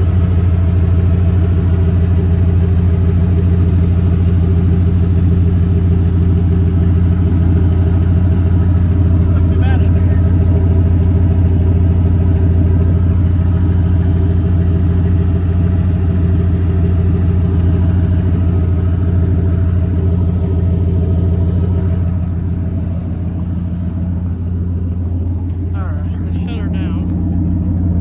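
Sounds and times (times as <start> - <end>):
engine idling with low hum: 0.0 - 28.0.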